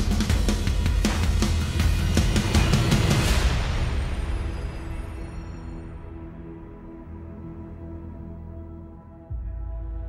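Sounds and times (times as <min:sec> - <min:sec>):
dark droning music: 0:00.0 - 0:10.0.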